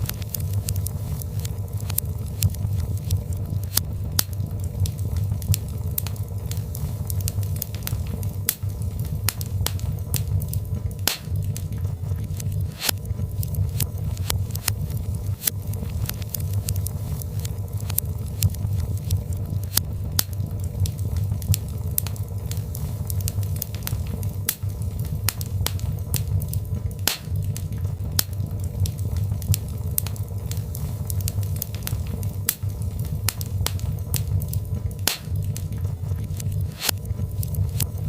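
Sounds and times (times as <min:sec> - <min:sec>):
low rumble of flames: 0:00.0 - 0:38.0
wood fire crackling and popping: 0:00.0 - 0:38.0.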